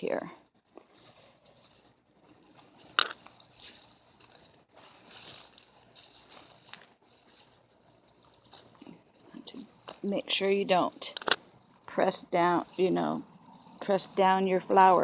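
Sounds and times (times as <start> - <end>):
grass and foliage rustling: 0.0 - 15.0.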